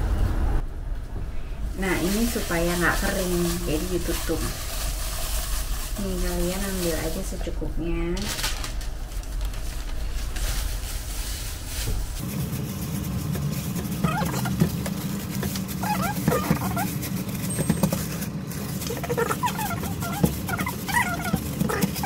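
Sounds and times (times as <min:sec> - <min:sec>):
steady low hum: 0:00.0 - 0:22.0
plastic glove crinkling: 0:01.7 - 0:22.0.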